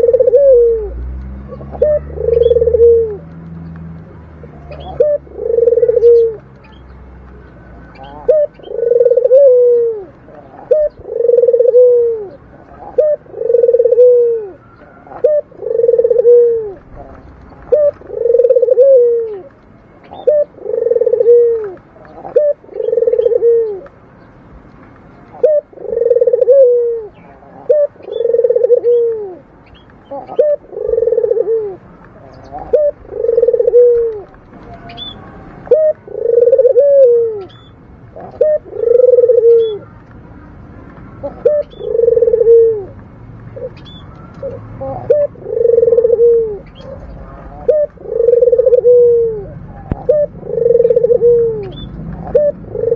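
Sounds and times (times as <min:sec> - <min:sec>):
dove cooing: 0:00.0 - 0:03.3, 0:04.4 - 0:23.9, 0:25.4 - 0:40.0, 0:41.2 - 0:52.9.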